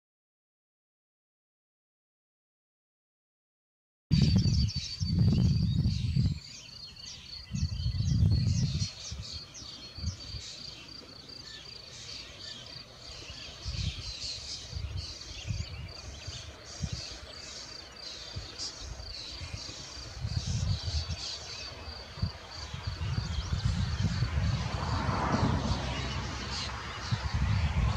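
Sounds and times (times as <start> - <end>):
young starlings begging calls: 4.2 - 27.9.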